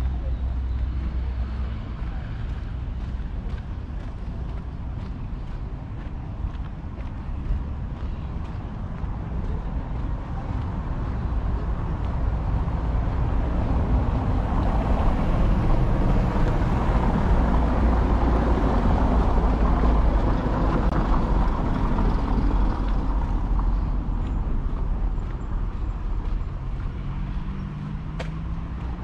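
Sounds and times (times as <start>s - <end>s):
motor vehicle passing: 0.0s - 29.0s.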